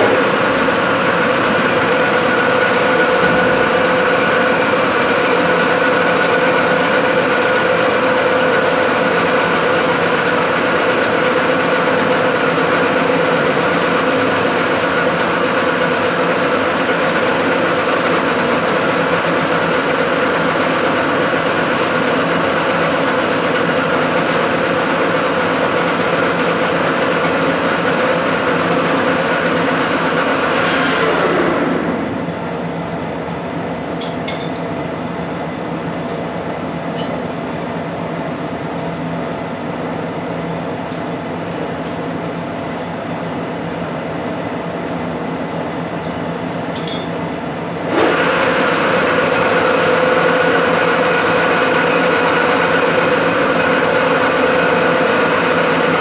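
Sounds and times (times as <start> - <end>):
metalworking machine whining: 0.0 - 56.0
workshop hum: 0.0 - 56.0.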